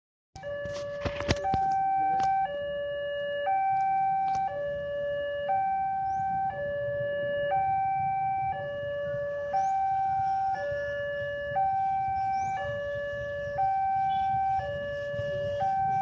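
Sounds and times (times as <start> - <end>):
two-tone electronic siren: 0.4 - 16.0.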